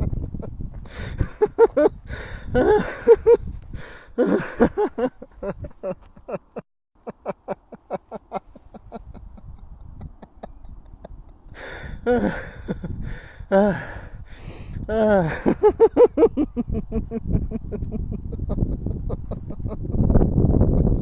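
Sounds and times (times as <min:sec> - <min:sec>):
man laughing in rhythmic pulses: 0:00.0 - 0:21.0.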